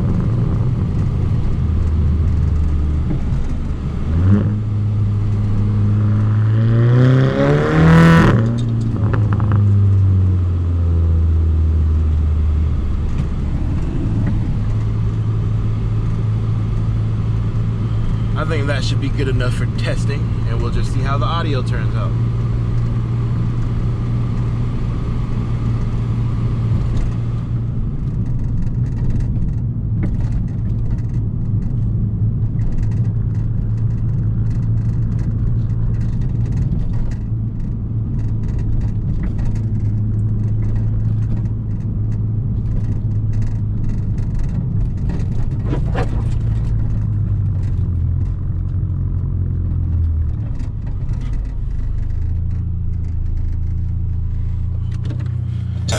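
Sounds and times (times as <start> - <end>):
car engine and exhaust droning: 0.0 - 55.9.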